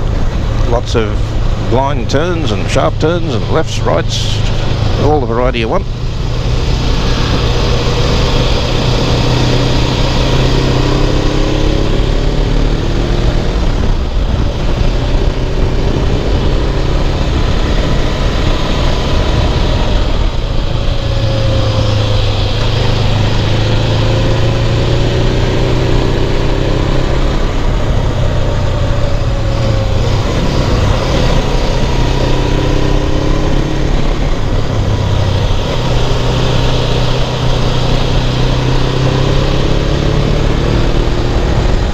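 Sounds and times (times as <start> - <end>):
motorcycle engine running: 0.0 - 41.9
steady rushing noise: 0.0 - 41.9.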